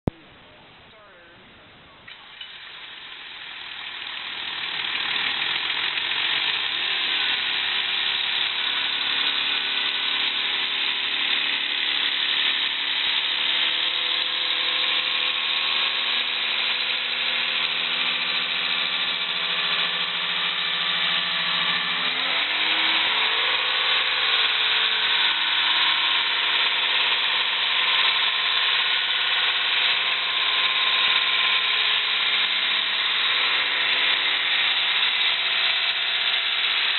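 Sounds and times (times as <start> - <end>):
engine starting and running: 2.0 - 36.9.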